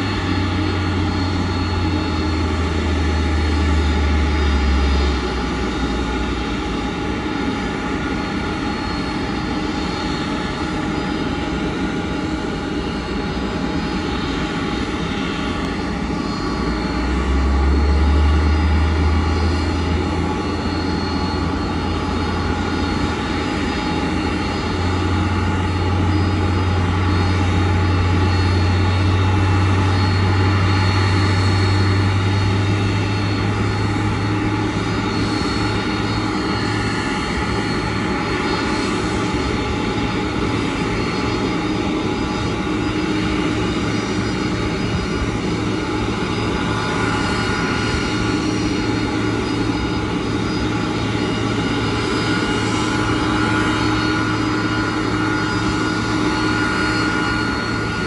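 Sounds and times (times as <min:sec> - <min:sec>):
high constant engine whines: 0:00.0 - 0:58.0
jet engine rumble: 0:00.0 - 0:58.0.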